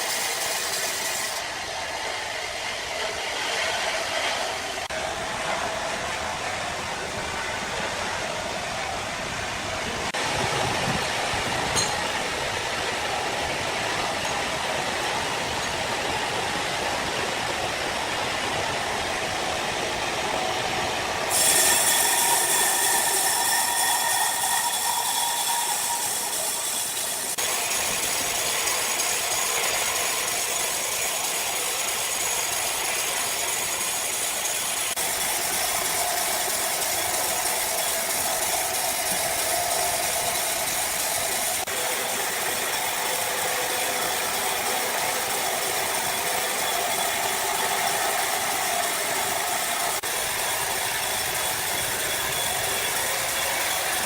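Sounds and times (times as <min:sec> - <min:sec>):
sawmill saw cutting wood: 0:00.0 - 0:09.2, 0:10.1 - 0:54.0.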